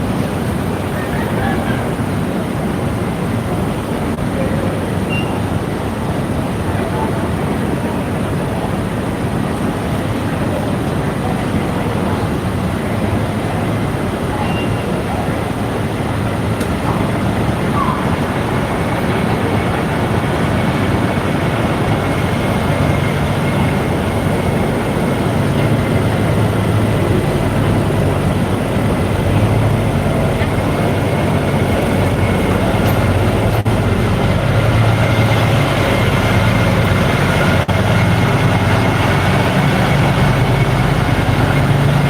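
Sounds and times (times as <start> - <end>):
low engine hum: 0.0 - 42.0
street traffic noise: 0.0 - 42.0.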